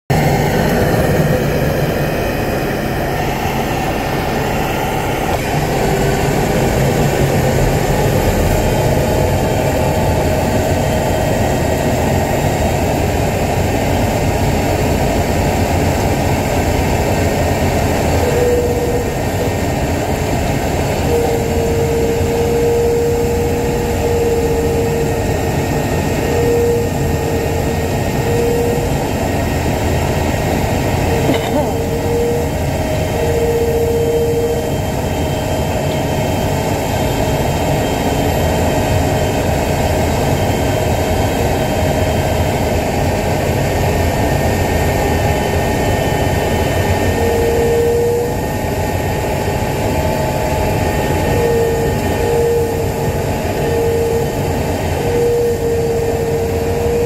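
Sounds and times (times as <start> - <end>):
thin steady whine: 0.1 - 57.0.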